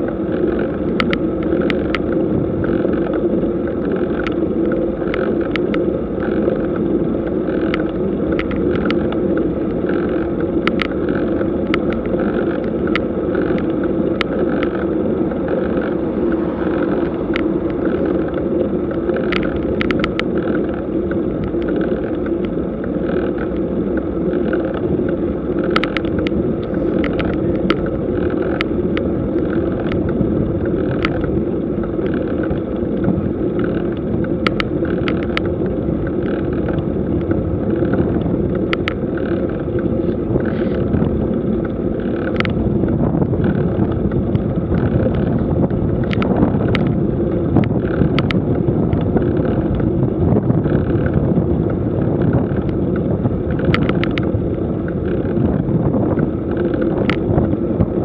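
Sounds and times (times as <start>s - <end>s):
bicycle clicks and rattles: 0.0s - 58.0s
bicycle tyres rumbling on asphalt: 0.0s - 58.0s.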